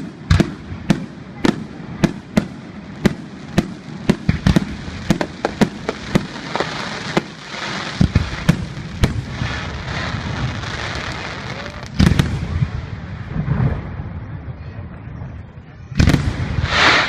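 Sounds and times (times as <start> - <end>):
fireworks crackling hiss: 0.0 - 14.3, 16.0 - 17.0
fireworks bangs: 0.0 - 14.4, 16.0 - 17.0.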